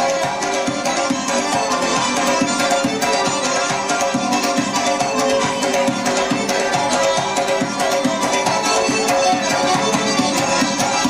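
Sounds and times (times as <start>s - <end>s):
held melody: 0.0s - 11.0s
quick steady drum beat: 0.0s - 11.0s.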